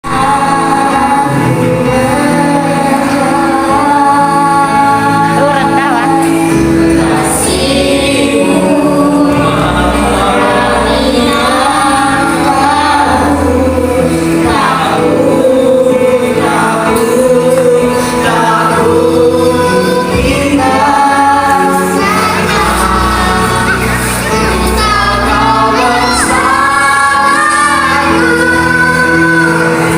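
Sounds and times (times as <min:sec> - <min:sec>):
several voices singing: 0:00.0 - 0:29.9
low instrumental accompaniment: 0:00.1 - 0:29.9.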